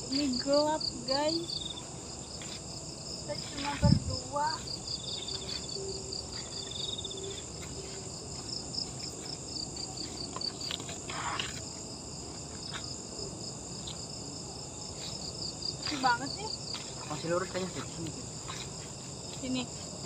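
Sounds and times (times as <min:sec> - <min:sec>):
buzzing insect trill: 0:00.0 - 0:20.0
insects chirping: 0:00.0 - 0:20.0.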